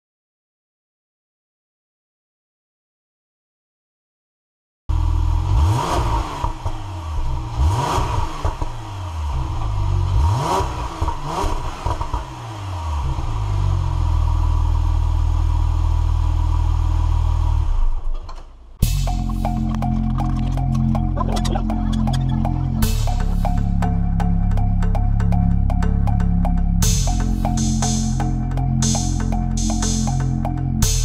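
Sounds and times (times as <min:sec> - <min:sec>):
car engine revving and idling: 0:04.9 - 0:31.0.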